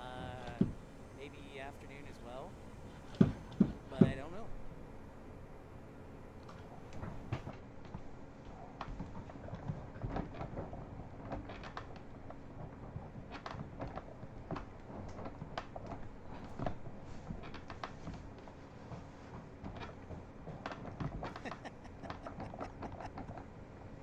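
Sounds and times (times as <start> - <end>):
low unsteady rumble: 0.0 - 24.0
irregular clicking and knocking: 2.7 - 4.4, 6.4 - 24.0.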